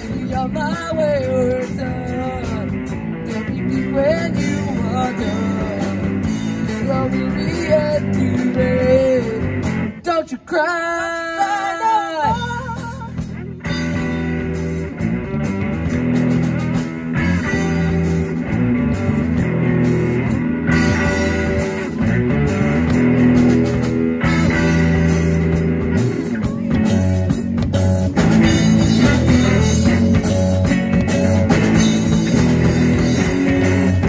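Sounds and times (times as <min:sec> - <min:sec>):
drum kit: 0:00.0 - 0:10.0, 0:12.2 - 0:34.0
bass guitar: 0:00.0 - 0:10.3, 0:11.1 - 0:34.0
electric guitar: 0:00.0 - 0:34.0.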